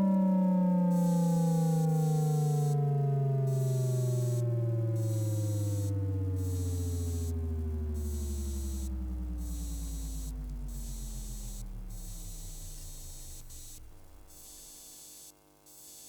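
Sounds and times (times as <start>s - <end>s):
synthesized spinning wind-down: 0.0s - 14.5s.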